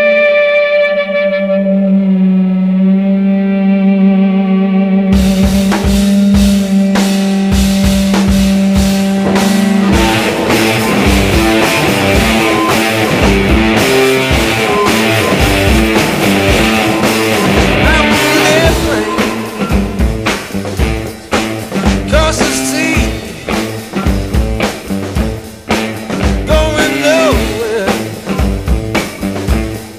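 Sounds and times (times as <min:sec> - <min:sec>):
distorted electric guitar: 0:00.0 - 0:29.9
drum kit beat: 0:05.1 - 0:29.9.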